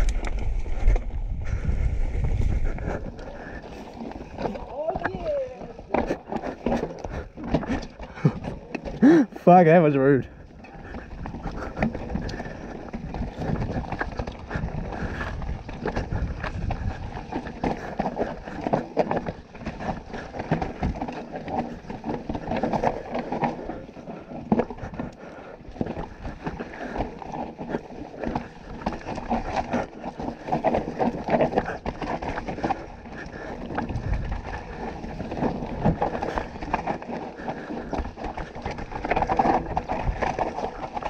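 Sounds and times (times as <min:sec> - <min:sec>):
bike frame rattling: 0:00.0 - 0:09.2, 0:10.2 - 0:41.0
bike tyres rolling over rocks: 0:00.0 - 0:41.0.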